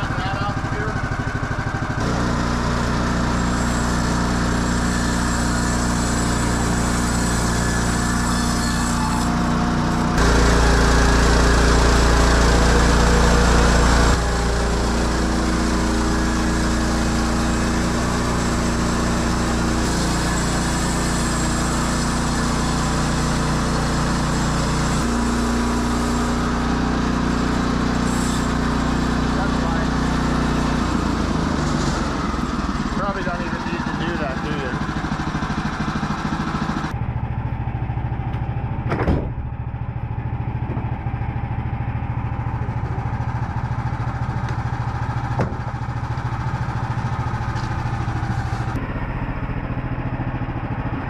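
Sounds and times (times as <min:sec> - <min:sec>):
small gasoline engine running: 0:00.0 - 0:51.0.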